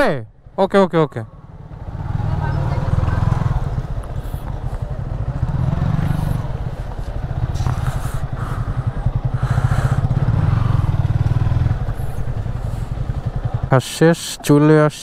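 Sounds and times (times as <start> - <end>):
motorcycle engine running: 1.2 - 15.0.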